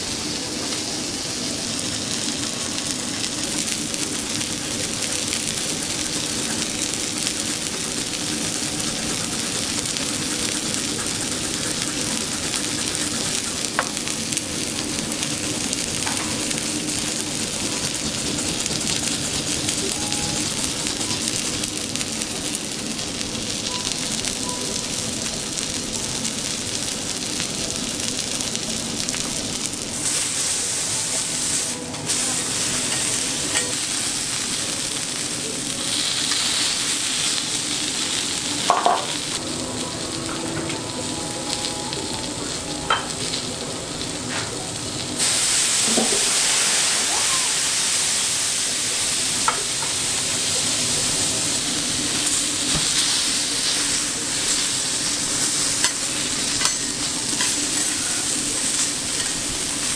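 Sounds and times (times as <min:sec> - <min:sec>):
steak sizzling on a griddle: 0:00.0 - 0:59.9.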